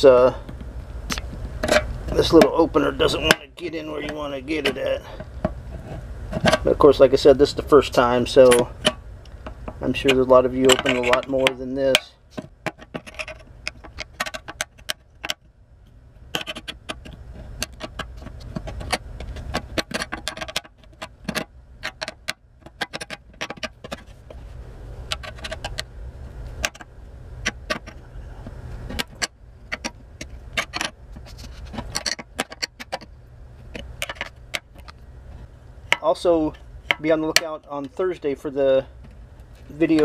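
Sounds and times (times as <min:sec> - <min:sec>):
low steady hum: 0:00.0 - 0:40.0
metal clicks and scrapes: 0:00.5 - 0:06.8, 0:08.4 - 0:15.5, 0:16.3 - 0:24.4, 0:25.1 - 0:38.1.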